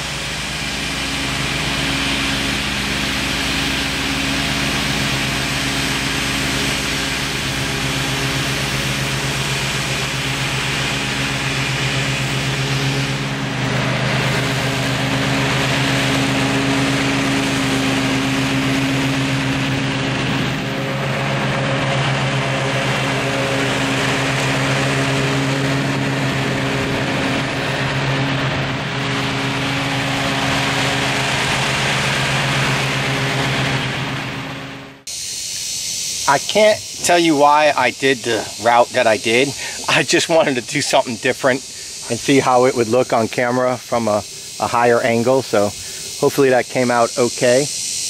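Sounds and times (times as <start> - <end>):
riding mower engine mowing grass: 0.0 - 48.0.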